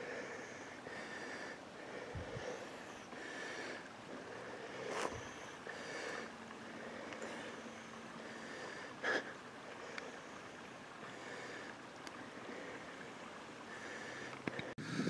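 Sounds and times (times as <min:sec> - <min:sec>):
faint wind: 0:00.0 - 0:15.0.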